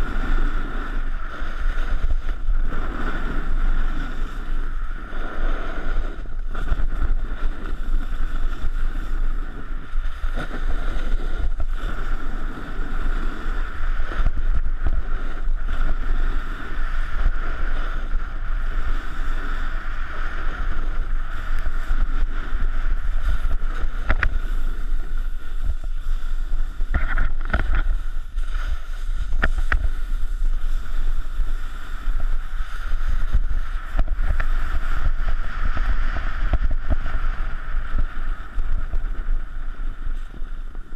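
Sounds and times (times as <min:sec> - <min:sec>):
snowboard sliding on snow: 0:00.0 - 0:40.9
wind buffeting microphone: 0:00.0 - 0:40.9.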